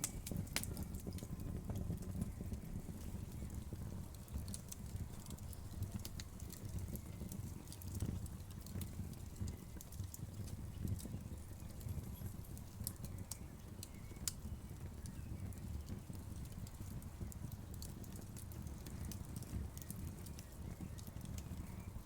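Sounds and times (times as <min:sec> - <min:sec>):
fire crackling and popping: 0:00.0 - 0:22.0
fire flames rumbling: 0:00.0 - 0:22.0
sharp snaps of fire: 0:00.0 - 0:22.0.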